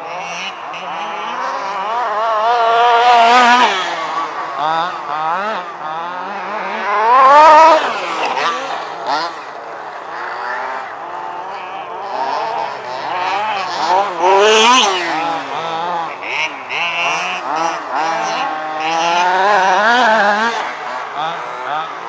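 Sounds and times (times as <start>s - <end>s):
small engines revving: 0.0s - 22.0s.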